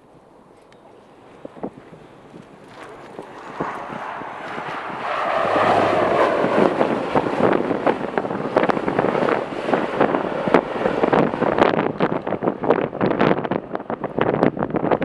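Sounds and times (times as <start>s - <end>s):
wind buffeting microphone: 0.0s - 15.0s
jet engine roar: 0.8s - 14.8s.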